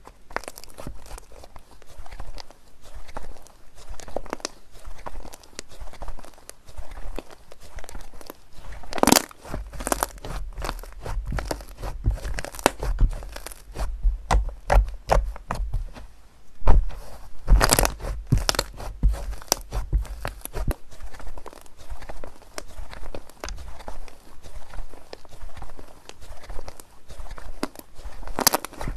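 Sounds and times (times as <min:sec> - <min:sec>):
slime squeezed by hand crackling: 0:00.3 - 0:16.0, 0:16.6 - 0:28.9.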